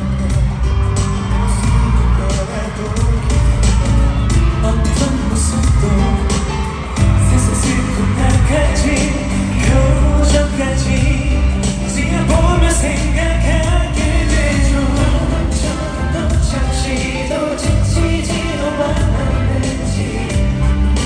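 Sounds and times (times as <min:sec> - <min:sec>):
pop backing track with bass beat: 0:00.0 - 0:21.0
male vocal group singing: 0:01.3 - 0:21.0.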